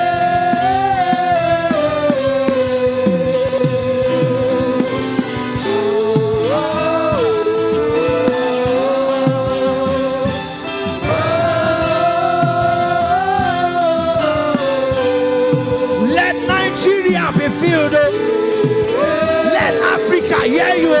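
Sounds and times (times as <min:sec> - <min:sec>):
person singing gospel: 0:00.0 - 0:21.0
sustained instrumental backing: 0:00.0 - 0:21.0.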